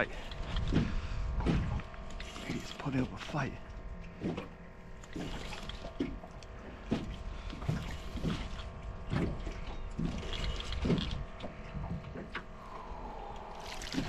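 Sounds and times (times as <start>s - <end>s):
faint steady hum: 0.0s - 14.0s
water noise: 0.0s - 14.0s
wind: 0.0s - 14.0s.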